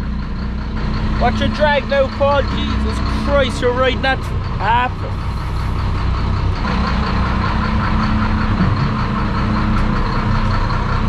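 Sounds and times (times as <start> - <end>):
boat engine running: 0.0 - 11.0
wind: 0.0 - 11.0.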